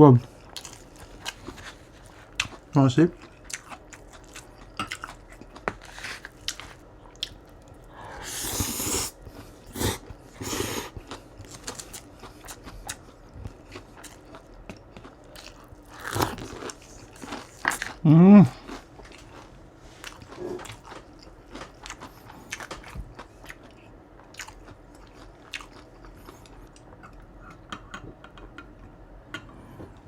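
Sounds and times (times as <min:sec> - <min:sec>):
crunching and chewing food: 0:00.1 - 0:30.0.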